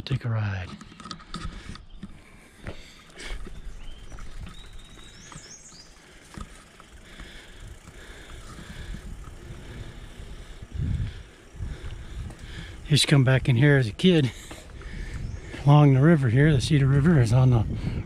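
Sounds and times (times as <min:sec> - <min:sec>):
bike clicks and rattles: 0:00.1 - 0:17.5
bicycle tyres on asphalt: 0:00.4 - 0:18.0.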